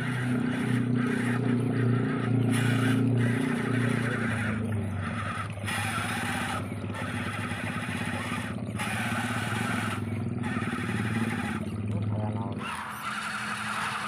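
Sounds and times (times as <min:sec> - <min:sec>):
toy car motor whirring: 0:00.0 - 0:11.8, 0:12.6 - 0:14.0
churned water hissing: 0:00.0 - 0:14.0.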